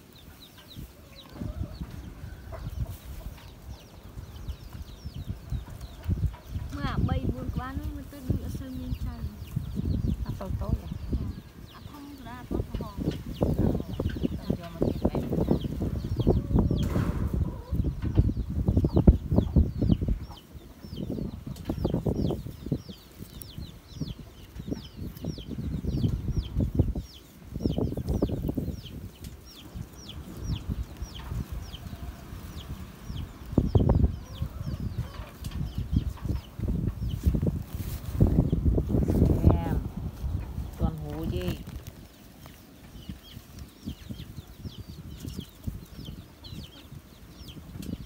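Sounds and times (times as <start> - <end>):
bird peeping: 0.0 - 48.0.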